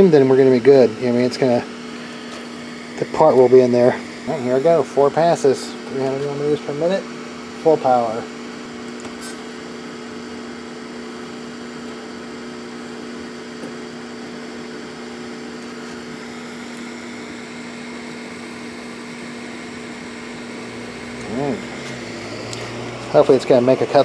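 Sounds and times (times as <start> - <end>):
cooling fan hiss: 0.0 - 24.0
laser engraver hum: 0.0 - 24.0.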